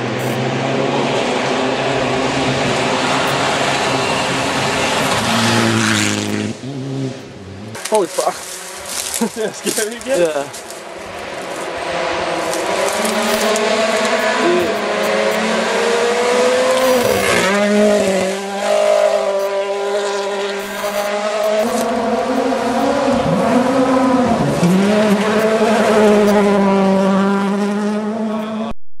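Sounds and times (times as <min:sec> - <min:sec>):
rally car engine at high revs: 0:00.0 - 0:28.7
car passing on gravel: 0:01.7 - 0:28.1.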